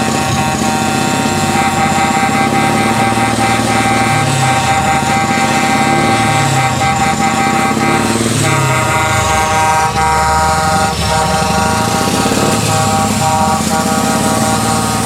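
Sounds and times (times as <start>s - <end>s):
diesel truck engine rumbling: 0.0s - 15.0s
truck air horns: 0.0s - 15.0s.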